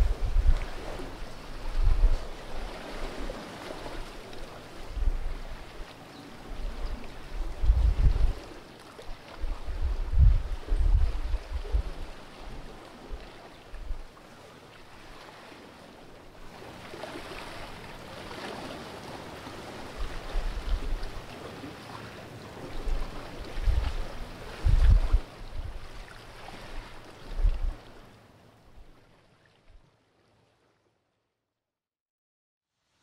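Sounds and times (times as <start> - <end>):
sea water lapping against rocks: 0.0 - 28.0.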